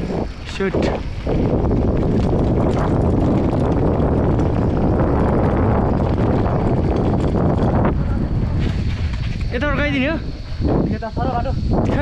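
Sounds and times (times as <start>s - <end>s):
bike tyres rolling over stony road: 0.0s - 12.0s
wind rush on microphone: 0.0s - 12.0s.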